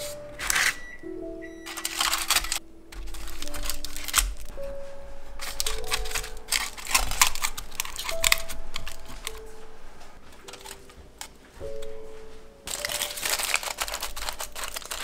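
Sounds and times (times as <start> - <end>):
soft background music: 0.0 - 15.0
aluminium foil crinkling: 1.6 - 15.0.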